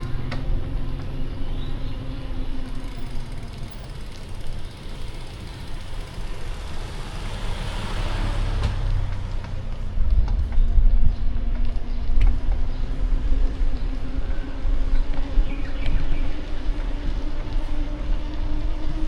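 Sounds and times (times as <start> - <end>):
street traffic rumble: 0.0 - 19.0
vehicle passing close by: 0.0 - 19.0.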